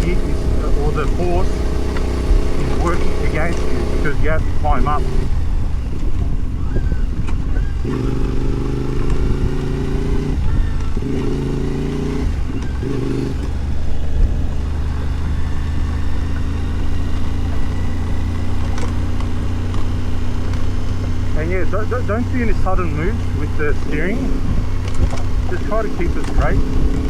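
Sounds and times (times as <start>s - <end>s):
motorbike engine running: 0.0s - 27.0s.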